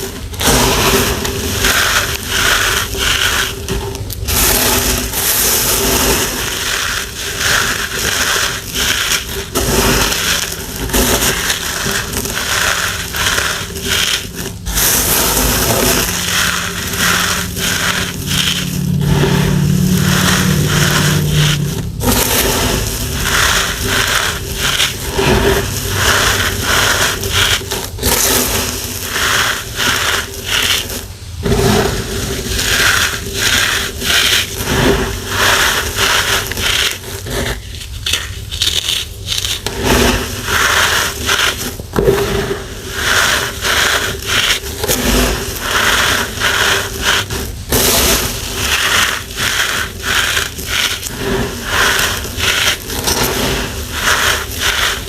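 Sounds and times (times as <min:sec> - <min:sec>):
chalky powder crunching by hand: 0:00.0 - 0:55.0.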